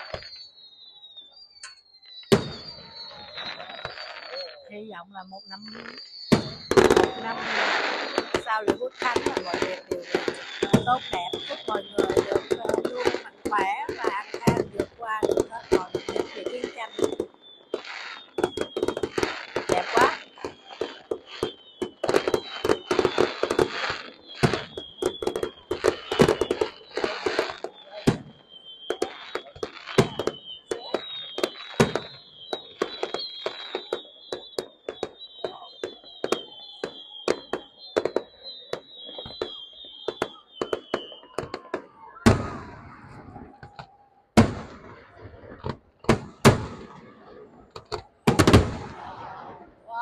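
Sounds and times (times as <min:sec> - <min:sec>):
faint high whistle gliding down: 0:00.0 - 0:46.0
fireworks bangs and crackling: 0:00.0 - 0:50.0.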